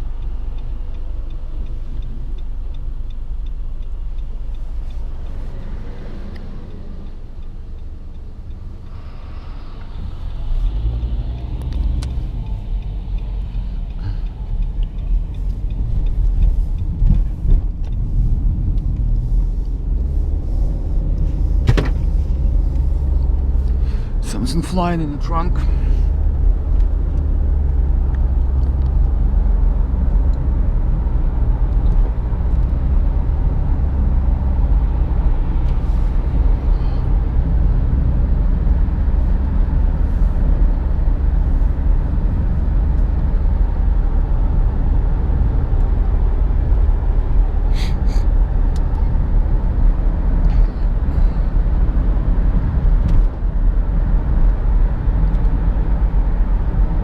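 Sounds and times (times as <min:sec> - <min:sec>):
road and drivetrain noise: 0:00.0 - 0:57.0.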